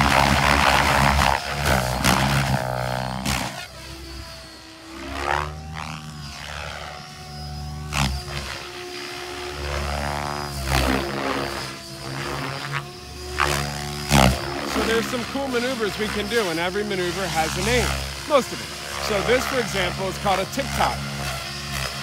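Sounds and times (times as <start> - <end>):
rc helicopter rotor drone: 0.0 - 22.0.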